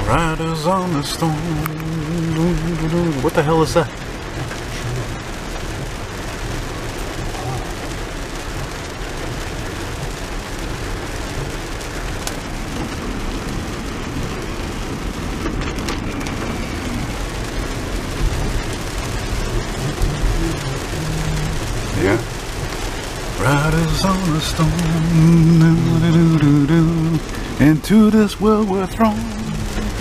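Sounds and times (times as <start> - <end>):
rain falling on a car: 0.0 - 30.0
road noise on wet road: 0.0 - 30.0.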